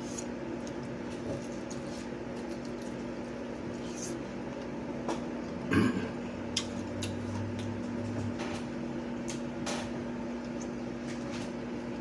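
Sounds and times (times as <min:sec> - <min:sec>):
low appliance hum: 0:00.0 - 0:12.0.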